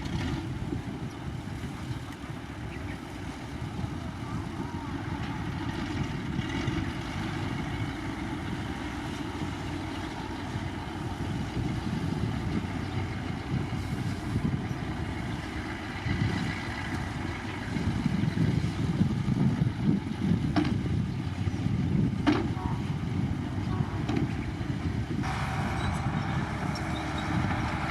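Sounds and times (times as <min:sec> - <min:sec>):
diesel machinery engine rumble: 0:00.0 - 0:27.9.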